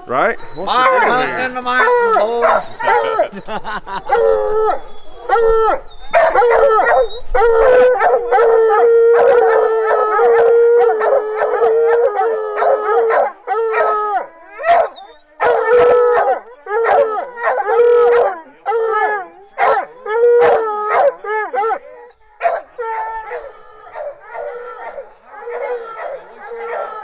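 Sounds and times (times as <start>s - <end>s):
hounds baying and howling: 0.2s - 27.0s.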